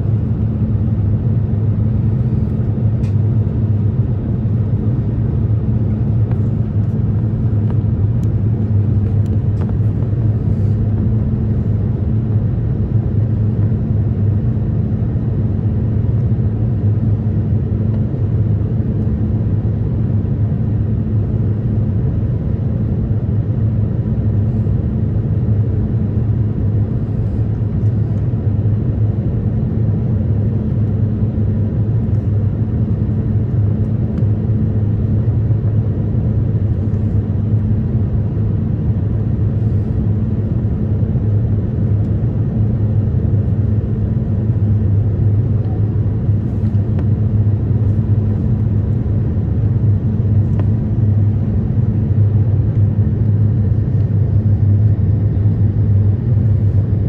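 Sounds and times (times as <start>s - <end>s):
airplane cabin rumble: 0.0s - 57.0s
low hum: 0.0s - 57.0s.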